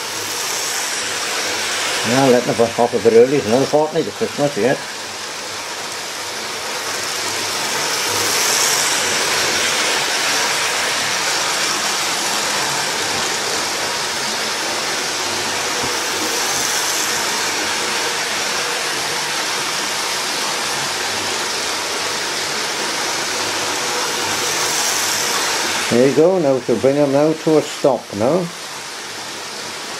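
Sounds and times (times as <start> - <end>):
model trains whirring on track: 0.0 - 29.9.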